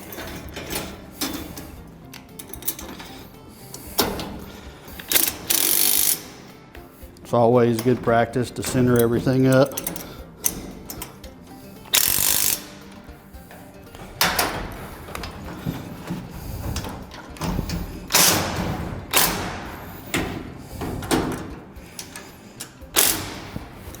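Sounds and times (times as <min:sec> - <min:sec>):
impact wrench bursts: 0:00.0 - 0:24.0.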